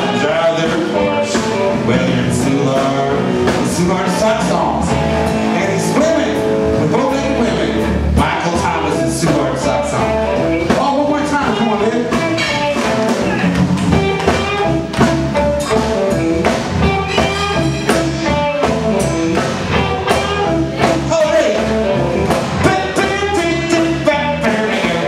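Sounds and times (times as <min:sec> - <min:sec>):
bass guitar: 0:00.0 - 0:25.0
drums: 0:00.0 - 0:25.0
electric guitar: 0:00.0 - 0:25.0.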